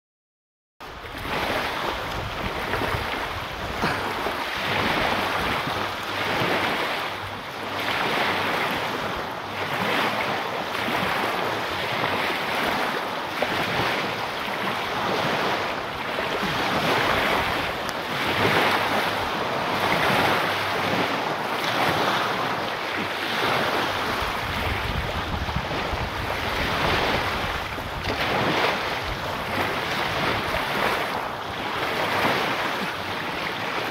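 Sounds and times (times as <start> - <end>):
surf breaking on beach: 0.8 - 33.9
wind buffeting microphone: 0.9 - 33.9.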